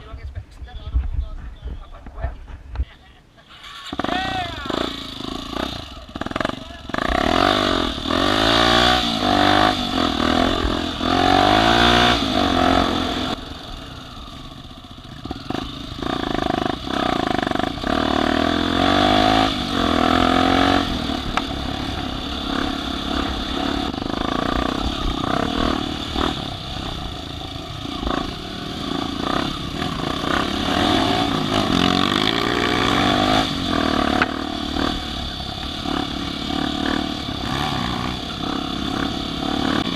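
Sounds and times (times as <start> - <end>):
off-road engines revving: 3.5 - 39.9.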